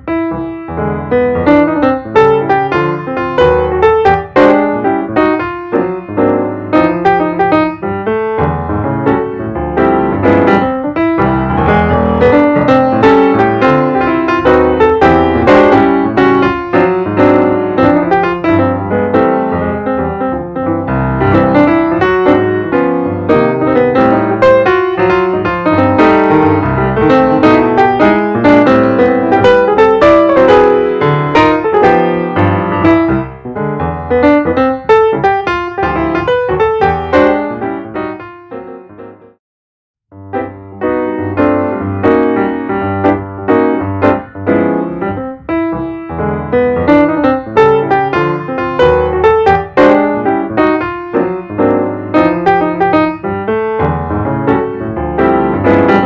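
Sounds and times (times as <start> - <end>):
background piano music: 0.0 - 39.4, 40.1 - 56.0.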